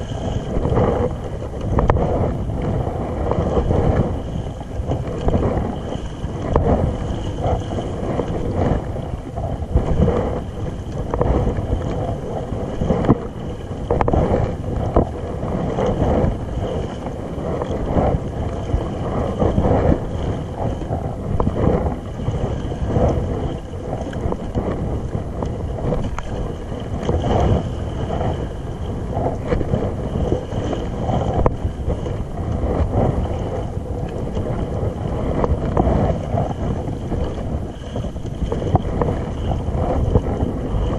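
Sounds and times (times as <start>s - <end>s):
water lapping against kayak: 0.0s - 40.9s
wind buffeting microphone: 0.0s - 40.9s.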